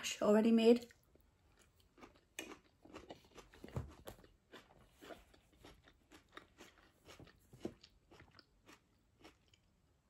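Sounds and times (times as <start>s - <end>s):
close-miked chewing: 0.8s - 9.8s.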